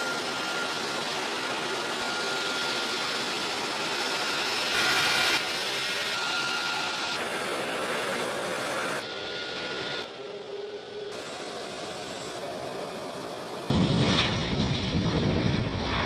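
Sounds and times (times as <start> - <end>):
jet engines running with high whine: 0.0 - 16.0.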